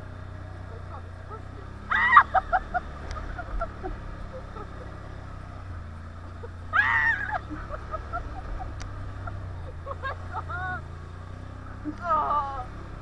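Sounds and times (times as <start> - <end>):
quad engine idling: 0.0 - 13.0.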